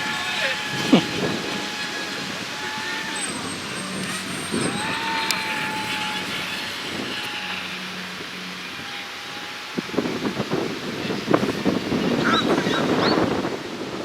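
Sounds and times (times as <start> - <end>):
model airplane motor whine: 0.0 - 14.0
wind noise: 0.0 - 14.0.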